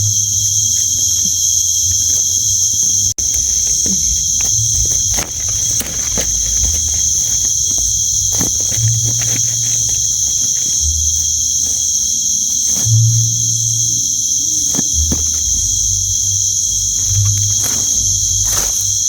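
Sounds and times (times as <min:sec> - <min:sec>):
night insects chorus: 0:00.0 - 0:19.0
handling clicks and rustling: 0:00.6 - 0:12.9, 0:14.6 - 0:15.9, 0:16.5 - 0:19.0.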